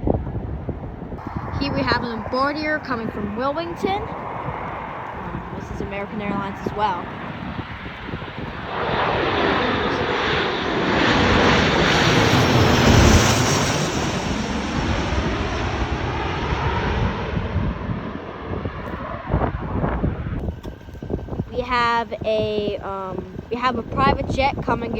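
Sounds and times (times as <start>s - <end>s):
airliner passing overhead: 0.0s - 24.9s.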